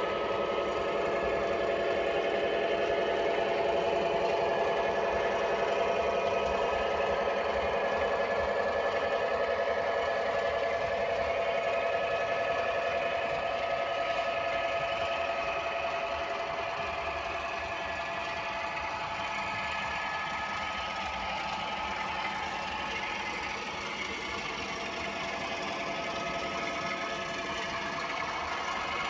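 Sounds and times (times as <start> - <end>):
model train locomotive drone: 0.0 - 29.0.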